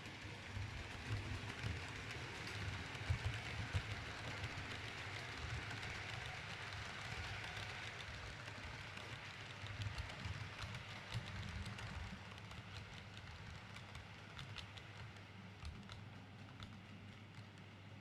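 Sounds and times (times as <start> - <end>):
model train wheels clicking: 0.0 - 18.0.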